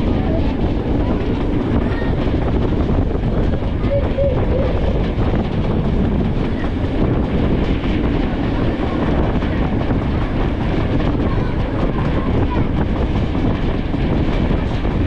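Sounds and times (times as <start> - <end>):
train wheels on rails: 0.0 - 15.0
wind on microphone: 0.0 - 15.0.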